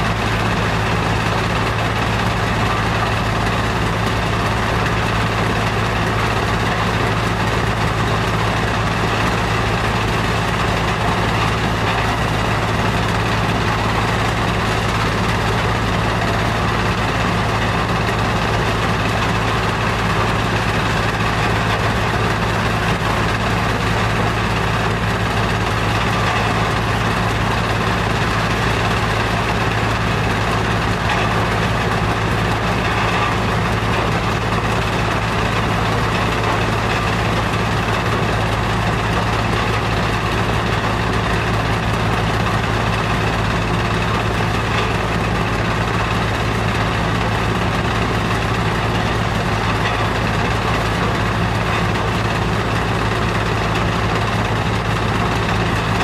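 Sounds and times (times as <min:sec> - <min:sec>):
heavy machinery humming: 0:00.0 - 0:56.0.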